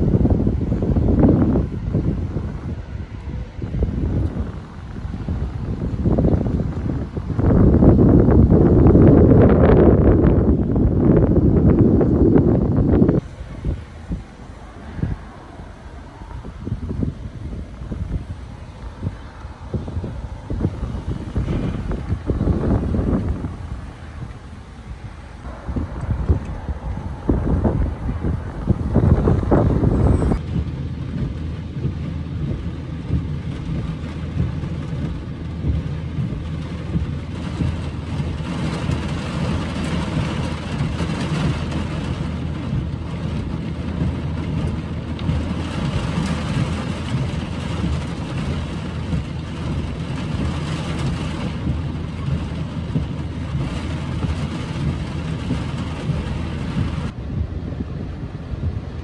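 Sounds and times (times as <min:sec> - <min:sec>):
car engine hum: 0:00.0 - 0:59.0
rain drumming on car roof: 0:00.0 - 0:59.0
wind buffeting microphone: 0:00.0 - 0:59.0.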